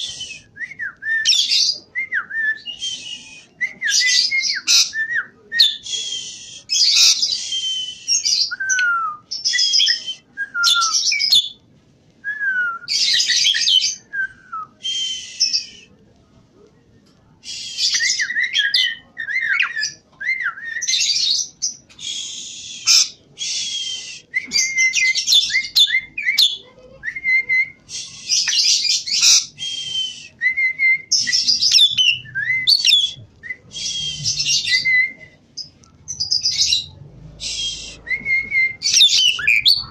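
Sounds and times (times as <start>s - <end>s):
starling singing: 0.0s - 11.6s, 17.4s - 39.9s.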